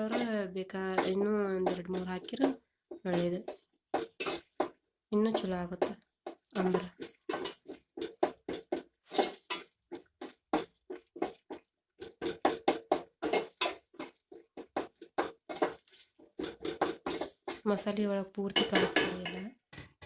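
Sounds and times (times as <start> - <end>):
spoon mashing tomatoes in pan: 0.0 - 20.0.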